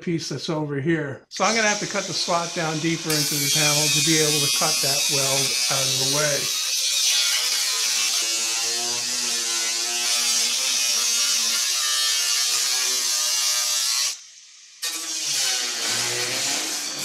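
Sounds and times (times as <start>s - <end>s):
angle grinder cutting steel: 1.3s - 17.0s.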